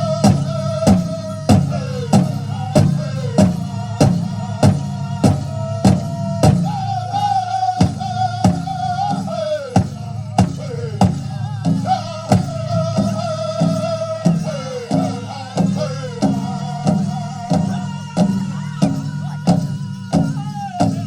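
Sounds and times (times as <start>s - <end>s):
big drum beating: 0.0s - 21.0s
high wavering group singing: 0.0s - 21.0s.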